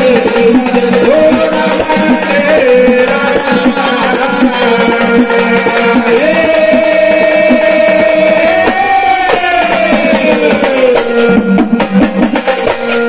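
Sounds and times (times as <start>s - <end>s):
singer holding long sliding note: 0.0s - 11.4s
drum strokes: 0.0s - 13.0s.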